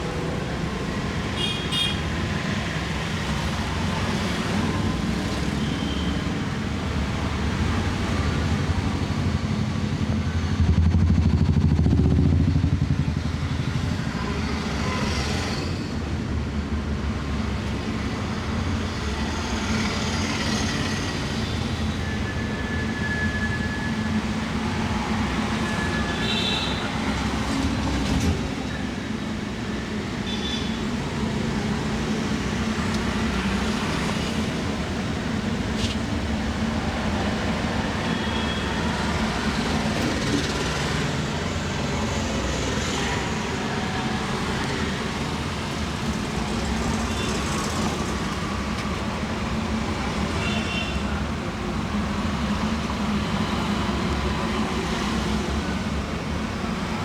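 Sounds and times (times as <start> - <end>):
low rumble of street noise: 0.0 - 57.0.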